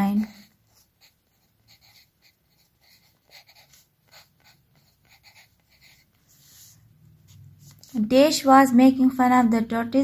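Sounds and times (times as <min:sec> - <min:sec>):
pencil scratching on paper: 0:00.0 - 0:08.4.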